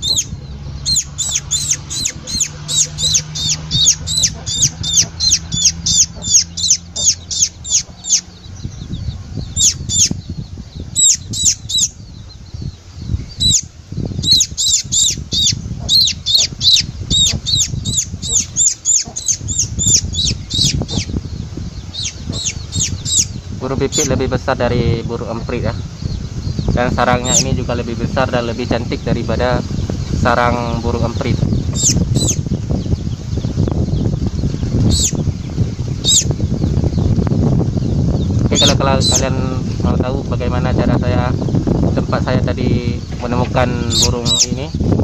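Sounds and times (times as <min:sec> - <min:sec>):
fledgling bird cheeping: 0:00.0 - 0:24.4, 0:25.0 - 0:39.5, 0:40.8 - 0:45.0
low rumbling handling noise: 0:00.0 - 0:45.0.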